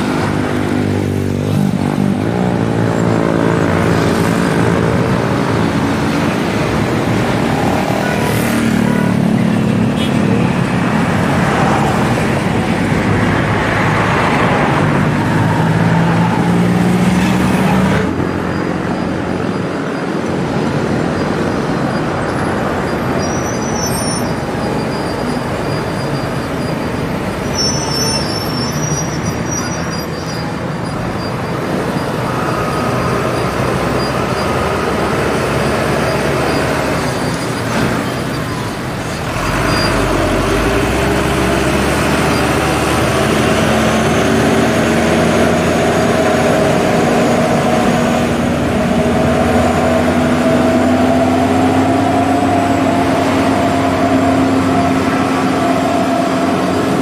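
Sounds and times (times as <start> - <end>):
diesel truck engine: 0.0 - 57.0
road traffic: 0.0 - 57.0.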